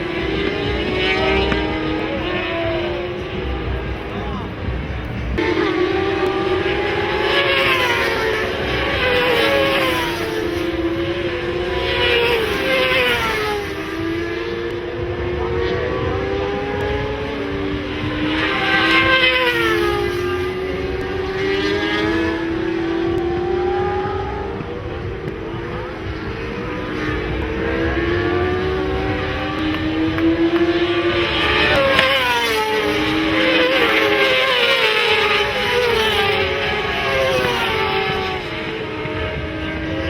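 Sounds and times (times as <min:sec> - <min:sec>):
racing motorcycles passing: 0:00.0 - 0:40.0.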